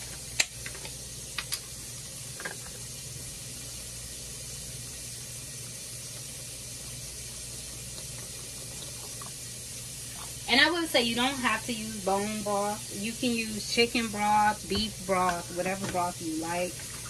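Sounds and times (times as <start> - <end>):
gas stove burner hissing: 0.0 - 17.0
pots simmering: 0.0 - 17.0.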